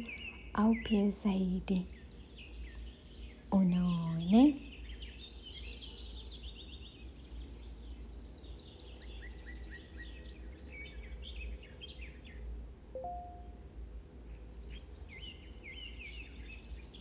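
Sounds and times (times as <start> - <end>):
low steady hum: 0.0 - 17.0
small birds chirping and trilling: 0.0 - 17.0.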